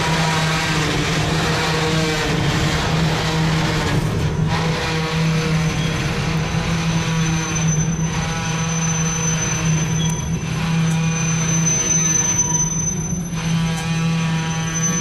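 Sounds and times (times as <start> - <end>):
high wheel squeal: 0.0 - 15.0
train wheels rumbling on rails: 0.0 - 15.0.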